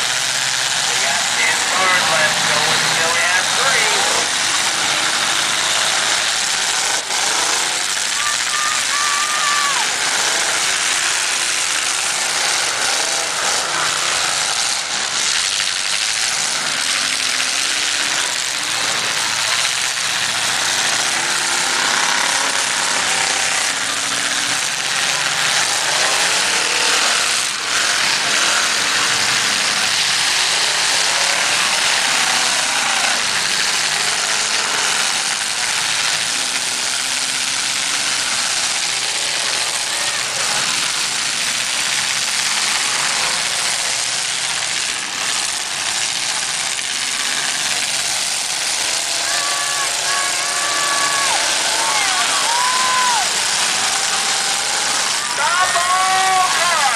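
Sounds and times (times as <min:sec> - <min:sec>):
car engines revving hard: 0:00.0 - 0:56.9.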